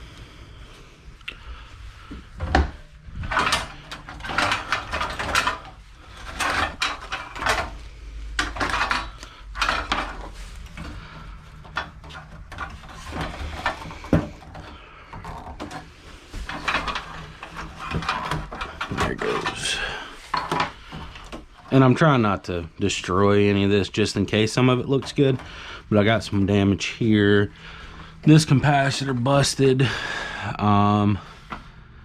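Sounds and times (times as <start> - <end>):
computer parts scraping and rattling: 1.7 - 22.3, 22.9 - 29.8.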